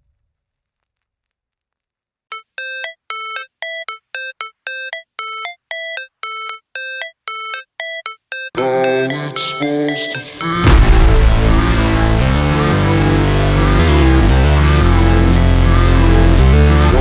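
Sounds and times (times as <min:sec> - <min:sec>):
repeating synth note: 0:02.3 - 0:16.3
backing music track: 0:02.3 - 0:17.0.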